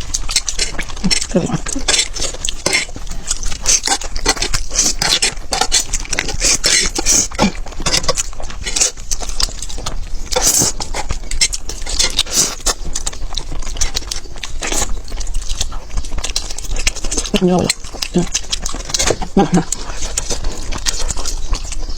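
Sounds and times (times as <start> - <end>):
birds pecking at food: 0.0 - 21.9.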